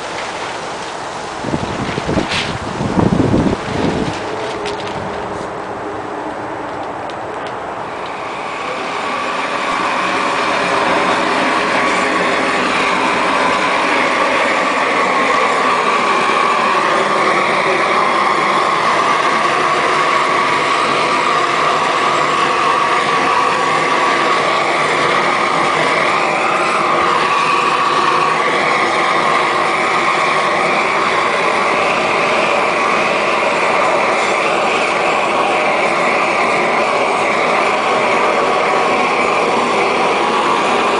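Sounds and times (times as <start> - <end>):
roofing torch burning: 0.0 - 40.9.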